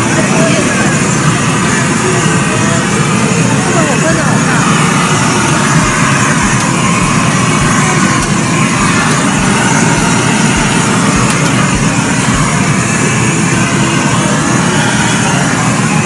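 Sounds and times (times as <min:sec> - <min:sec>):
blowtorch flame rushing: 0:03.0 - 0:16.0.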